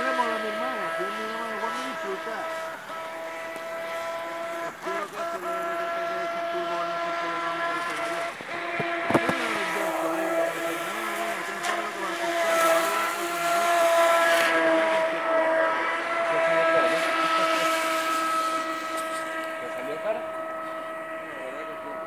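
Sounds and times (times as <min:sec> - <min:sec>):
electric boat motor whine: 0:00.0 - 0:22.0.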